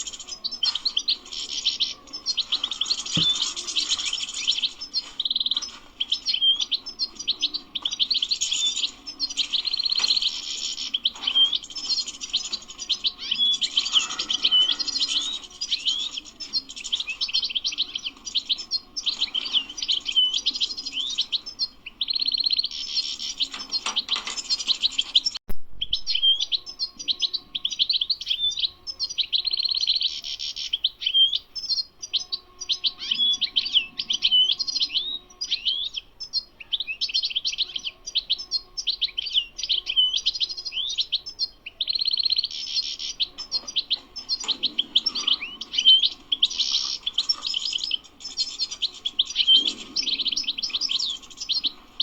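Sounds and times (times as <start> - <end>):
goldfinch twittering and trilling: 0.0 - 52.0.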